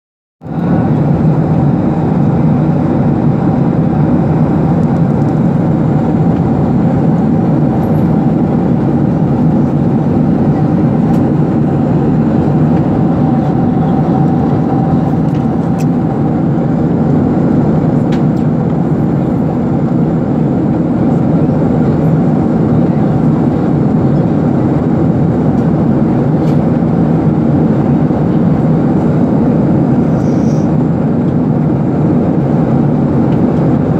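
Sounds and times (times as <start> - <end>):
jet cabin engine rumble: 0.4 - 33.9.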